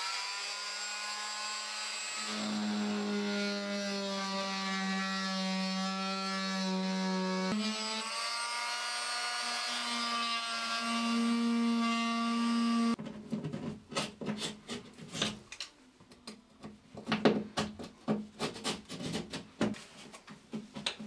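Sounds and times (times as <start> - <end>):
multi-tool cutting plasterboard: 0.0 - 15.8, 17.1 - 19.8.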